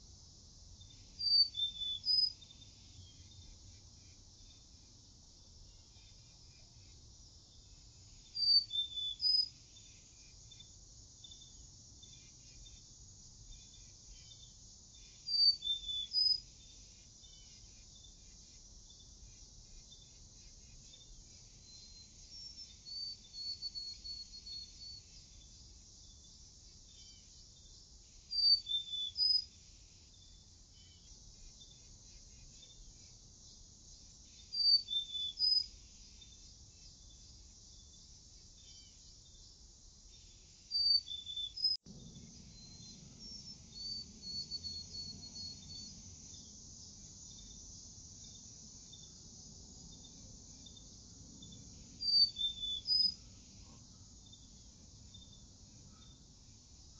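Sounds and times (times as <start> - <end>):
insect chorus: 0.0 - 56.9
songbird singing: 0.0 - 56.9.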